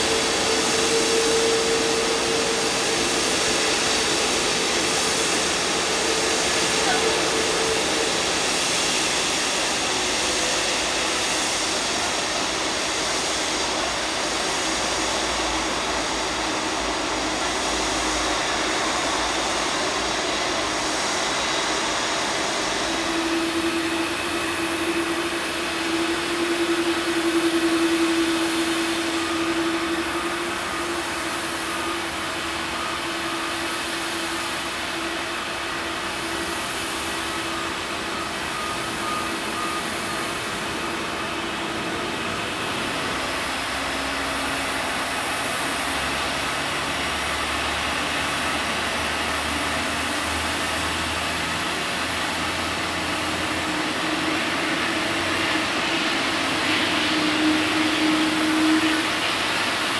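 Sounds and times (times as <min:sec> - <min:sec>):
droning hum: 0:00.0 - 0:59.9
jet engines roaring: 0:00.0 - 0:59.9.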